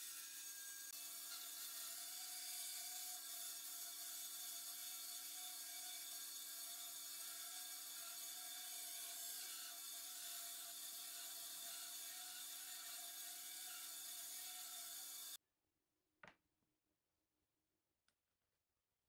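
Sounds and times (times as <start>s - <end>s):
band saw cutting wood: 0.0s - 15.4s.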